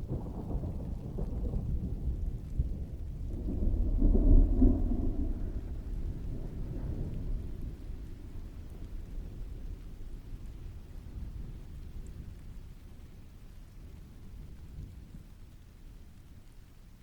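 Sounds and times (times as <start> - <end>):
thunder rumbling: 0.0 - 16.3
steady rainfall: 0.0 - 17.0.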